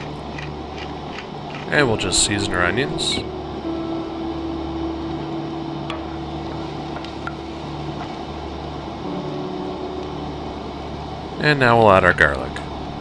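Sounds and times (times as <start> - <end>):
camp stove low hum: 0.0 - 13.0.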